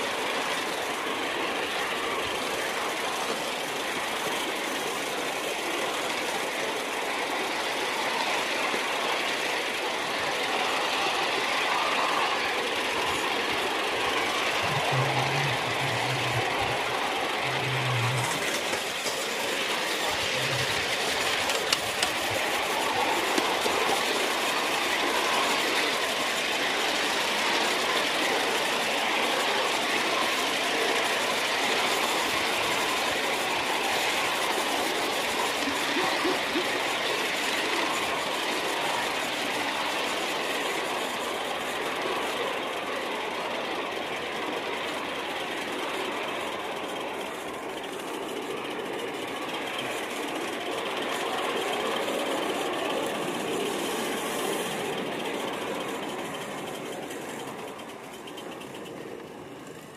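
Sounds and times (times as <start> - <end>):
miniature steam locomotive running: 0.0 - 59.9.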